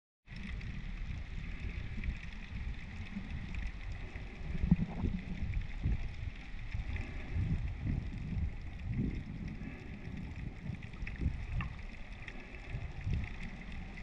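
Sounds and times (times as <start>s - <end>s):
crackling ticks: 0.3s - 14.0s
underwater water rumble: 0.3s - 14.0s.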